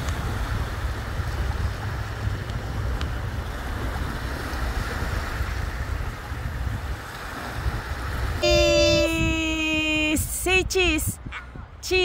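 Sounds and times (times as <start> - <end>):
small waves breaking on shore: 0.0 - 10.1
wind rumbling on microphone: 0.0 - 12.0.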